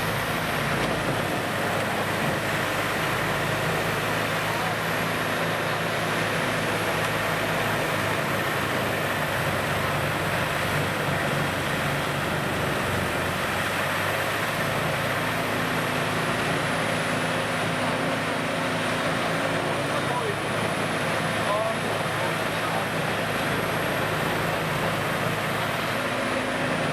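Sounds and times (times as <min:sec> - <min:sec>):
engine drone: 0:00.0 - 0:26.9.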